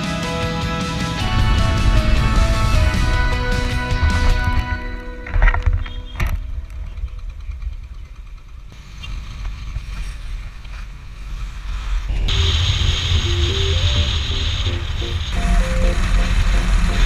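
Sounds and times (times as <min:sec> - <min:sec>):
motorcycle engine rumble: 0:01.2 - 0:17.0.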